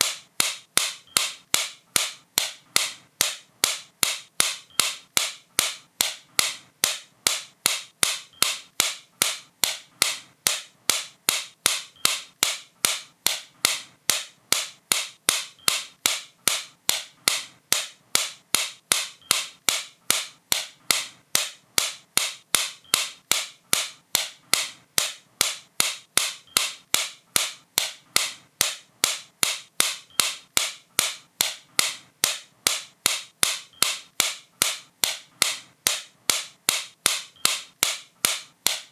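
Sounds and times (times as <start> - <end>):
sharp regular clicks: 0.0 - 38.9.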